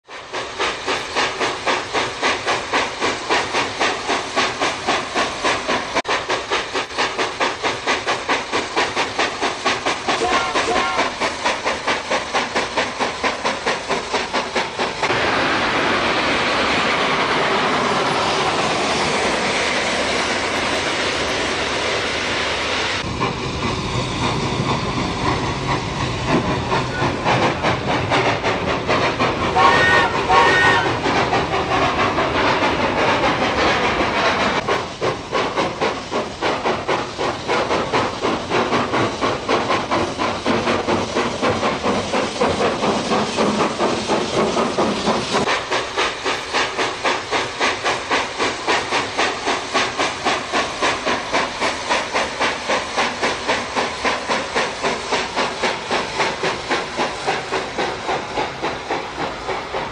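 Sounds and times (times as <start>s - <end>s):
steam hissing: 0.0s - 59.9s
steam locomotive chuffing: 0.0s - 59.9s.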